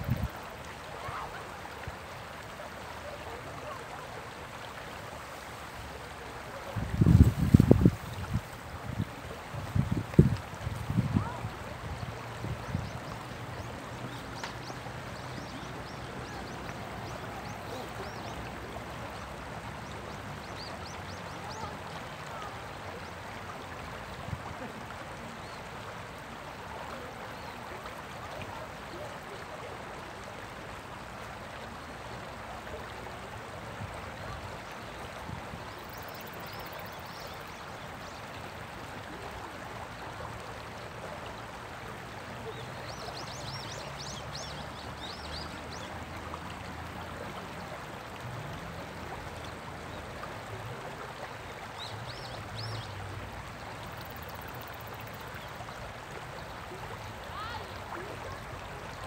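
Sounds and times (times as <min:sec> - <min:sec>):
river water running over rocks: 0:00.0 - 0:59.0.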